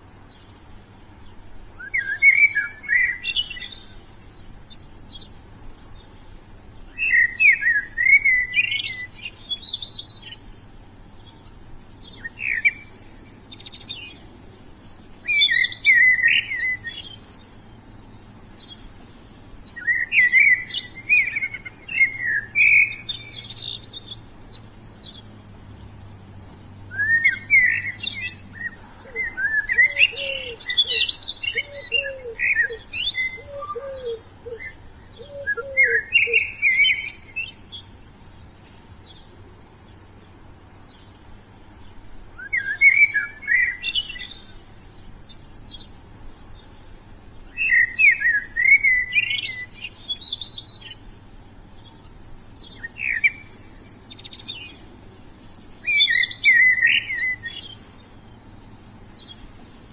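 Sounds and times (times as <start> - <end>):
warbling bird chirps: 0.3 - 25.6, 26.4 - 40.1, 42.4 - 59.9
lower bird call: 0.3 - 40.2, 40.9 - 59.9.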